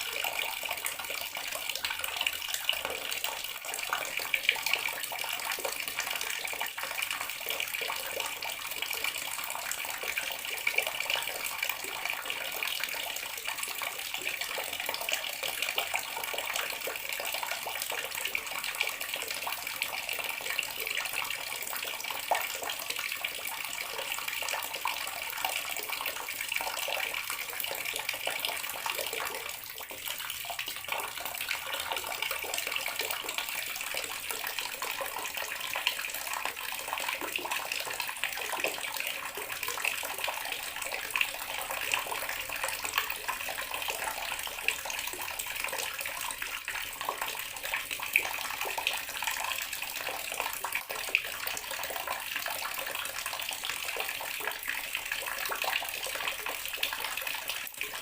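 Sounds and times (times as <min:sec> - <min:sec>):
water tap running into basin: 0:00.0 - 0:58.0.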